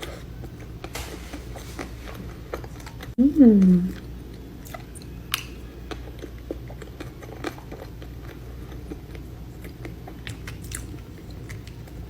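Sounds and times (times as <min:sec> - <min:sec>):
low steady hum: 0:00.0 - 0:12.0
soft chewing: 0:00.0 - 0:12.0.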